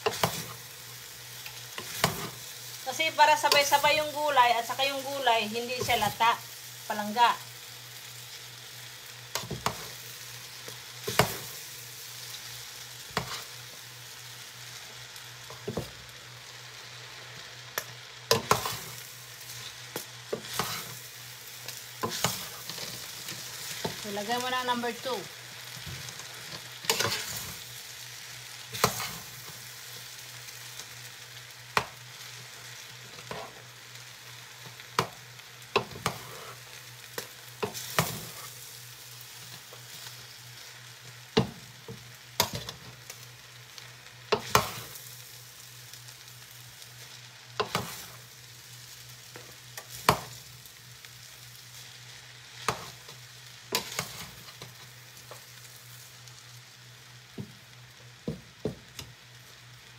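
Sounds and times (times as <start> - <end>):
noodles sizzling in a pot: 0.0 - 59.9.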